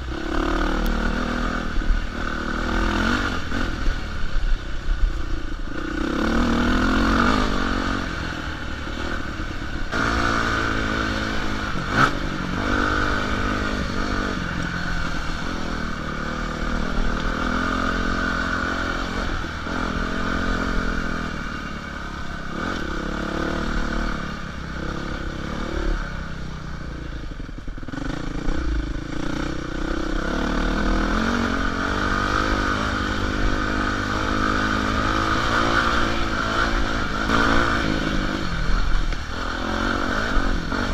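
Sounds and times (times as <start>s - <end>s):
dirt bike engine revving: 0.0s - 4.5s, 5.1s - 40.9s.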